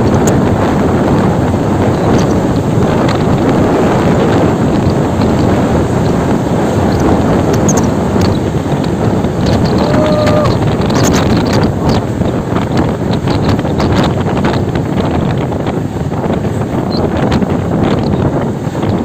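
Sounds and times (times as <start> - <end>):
road traffic rumble: 0.0 - 19.0
wind buffeting microphone: 0.0 - 19.0.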